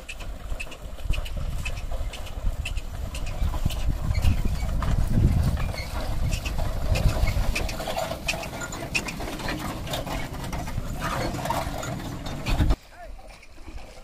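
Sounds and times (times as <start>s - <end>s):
cart rattling over rough ground: 0.0s - 14.0s.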